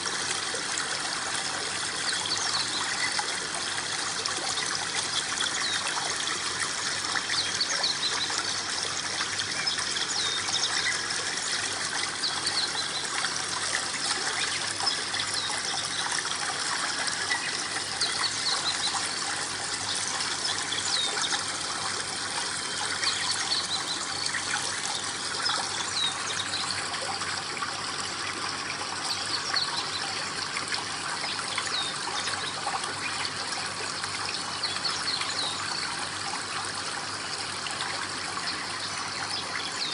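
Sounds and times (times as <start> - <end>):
water drips and splashes: 0.0 - 39.9
water trickling down small waterfall: 0.0 - 39.9.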